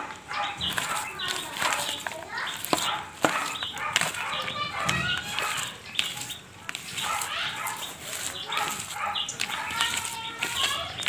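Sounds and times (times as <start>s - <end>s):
farmyard animals calling: 0.0s - 11.0s
salad tossed in plastic bowl: 0.6s - 11.0s.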